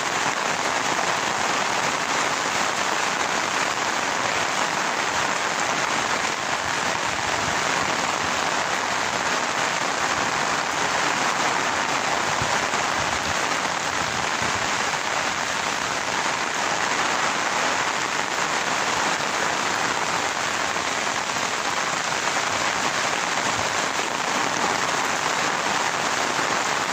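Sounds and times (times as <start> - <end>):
rain on grass and water: 0.0 - 26.9.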